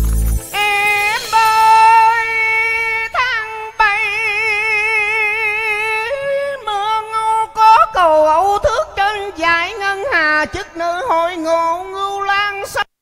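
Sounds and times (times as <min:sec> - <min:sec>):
person singing long high notes: 0:00.5 - 0:12.9.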